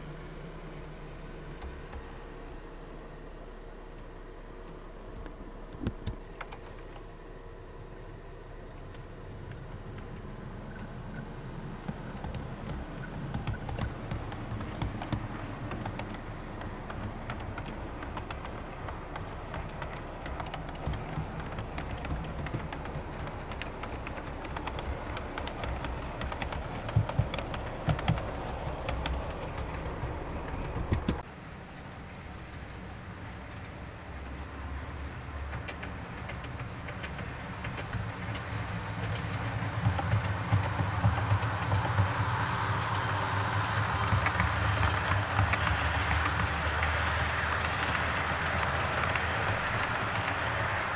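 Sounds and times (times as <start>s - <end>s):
wheels clicking over rail joints: 8.9s - 50.9s
model train rumbling: 9.0s - 50.9s.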